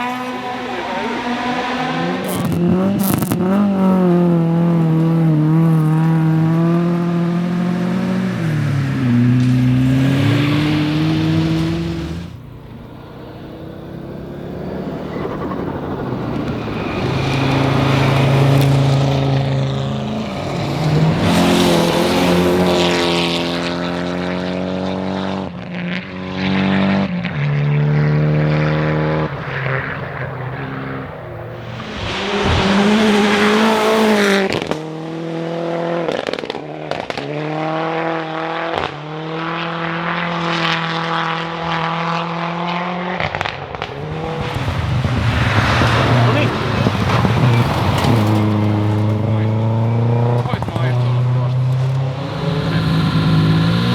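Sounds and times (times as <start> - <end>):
rally car engines at high revs: 0.0 - 53.9.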